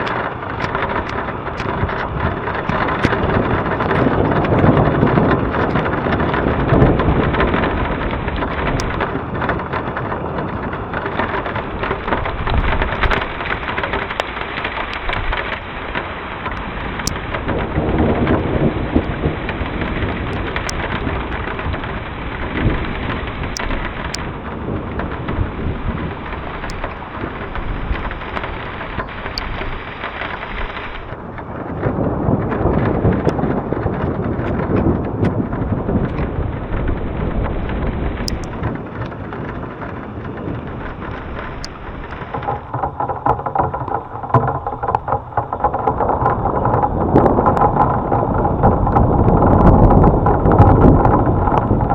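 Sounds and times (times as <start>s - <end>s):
heavy rain falling: 0.0s - 51.9s
raindrops ticking: 0.0s - 51.9s
rolling thunder: 0.0s - 51.9s.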